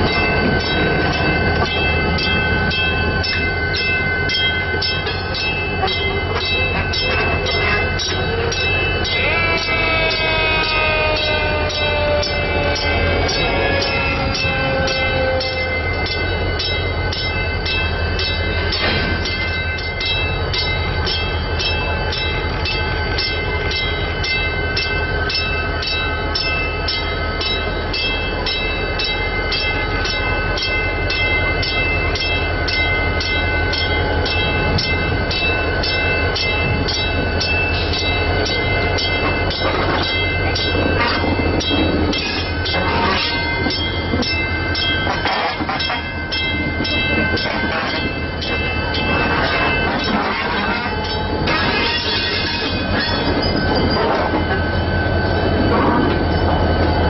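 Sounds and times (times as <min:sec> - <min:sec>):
diesel locomotive rumbling: 0:00.0 - 0:57.0
locomotive bell ringing: 0:00.0 - 0:57.0.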